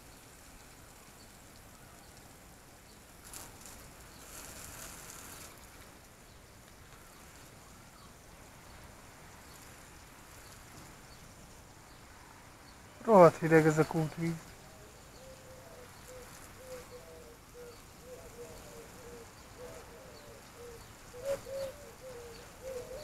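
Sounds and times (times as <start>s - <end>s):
faint outdoor background noise: 0.0s - 23.0s.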